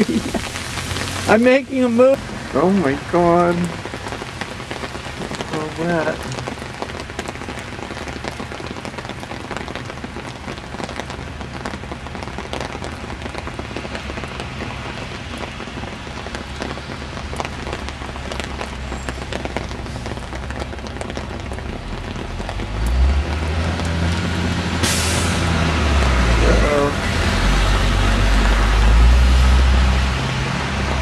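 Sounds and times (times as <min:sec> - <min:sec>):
hail and rain falling: 0:00.0 - 0:31.0.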